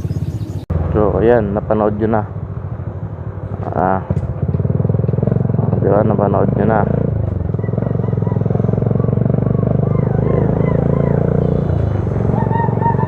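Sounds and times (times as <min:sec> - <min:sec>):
motorcycle engine while riding: 0:00.0 - 0:13.0.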